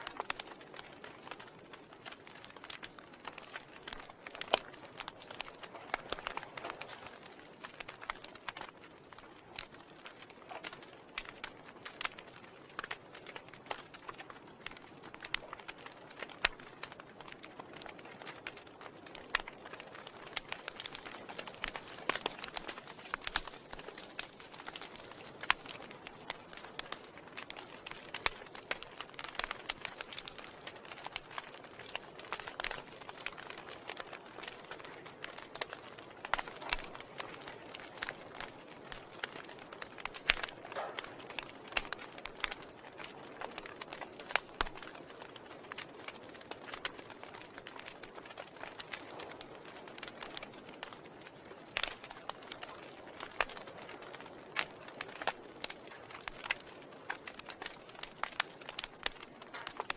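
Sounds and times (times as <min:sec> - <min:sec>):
fire crackling and popping: 0:00.0 - 0:59.9
fire hissing softly: 0:00.0 - 0:59.9.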